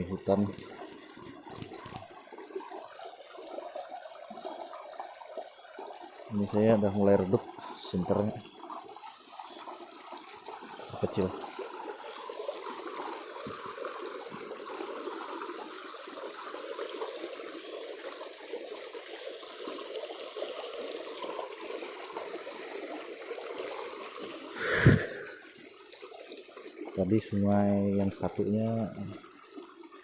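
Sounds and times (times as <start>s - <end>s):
stream water flowing: 0.0s - 30.0s.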